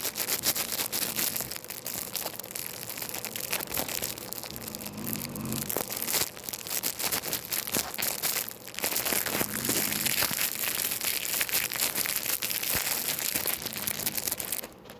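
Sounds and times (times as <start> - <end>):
material crinkling and crumpling: 0.0 - 14.9.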